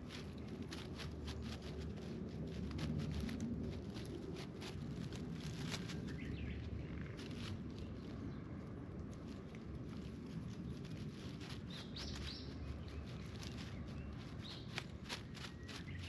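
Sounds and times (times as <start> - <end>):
cat chewing dry grass: 0.0 - 16.0.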